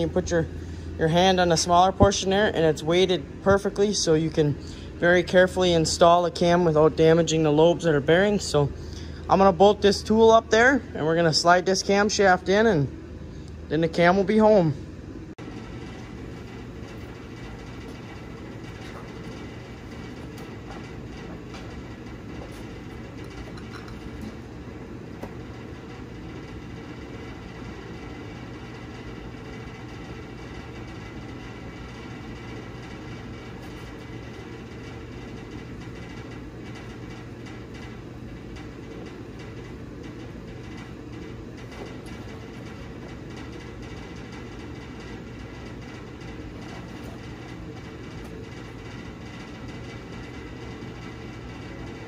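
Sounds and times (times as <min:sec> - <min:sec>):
heater hum and rush: 0:00.0 - 0:52.0.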